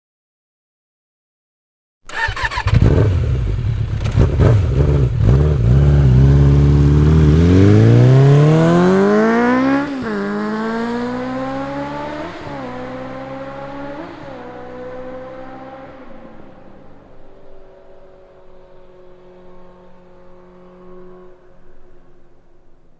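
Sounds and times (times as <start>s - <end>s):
motorcycle engine revving: 2.1s - 22.1s.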